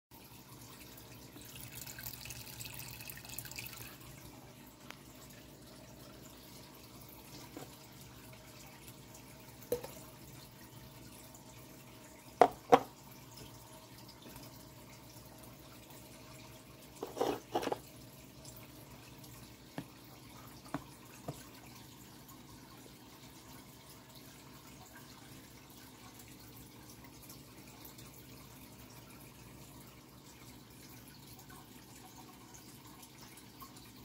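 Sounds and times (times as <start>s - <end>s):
aquarium filter water bubbling: 0.1s - 34.0s.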